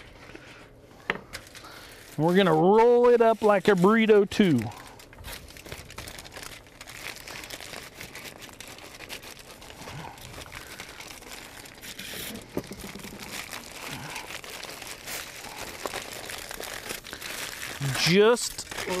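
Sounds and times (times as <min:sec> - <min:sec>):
aluminium foil crinkling: 0:01.2 - 0:19.0.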